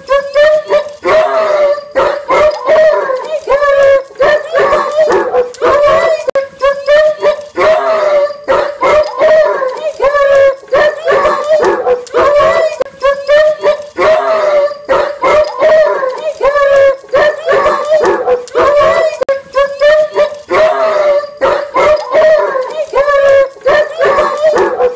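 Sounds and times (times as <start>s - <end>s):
dogs howling and whining: 0.0s - 24.9s.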